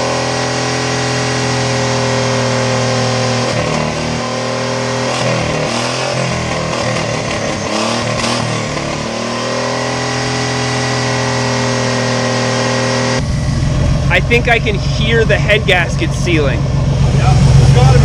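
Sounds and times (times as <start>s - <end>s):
turbocharged car engine revving: 0.0s - 18.0s.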